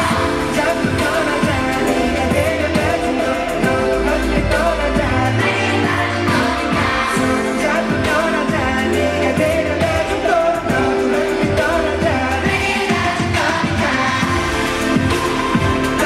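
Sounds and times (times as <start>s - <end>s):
man singing pop song: 0.0s - 16.0s
steady drum beat: 0.0s - 16.0s.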